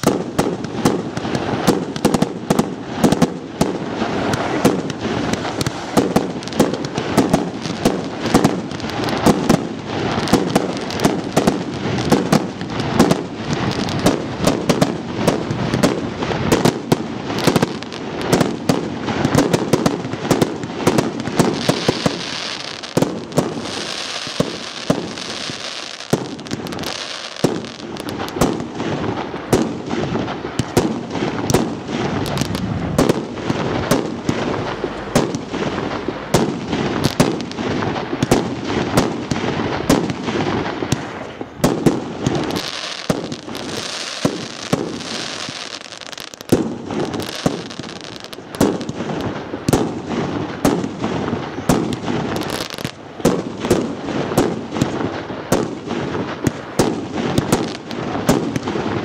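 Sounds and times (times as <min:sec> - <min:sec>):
fireworks hissing: 0:00.0 - 0:59.0
fireworks launching and bursting: 0:00.0 - 0:59.0.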